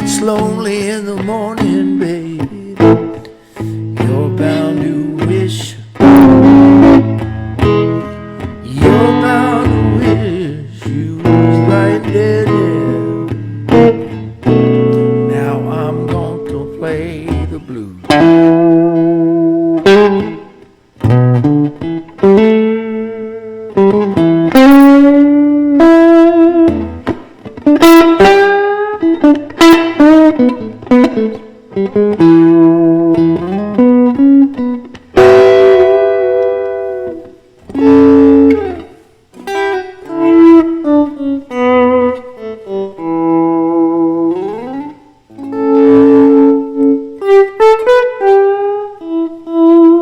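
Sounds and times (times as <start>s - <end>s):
electric guitar blues solo: 0.0s - 50.0s.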